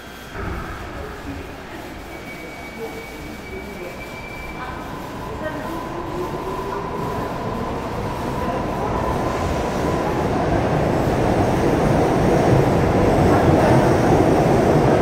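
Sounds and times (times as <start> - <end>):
train running and rail noise: 0.0 - 15.0.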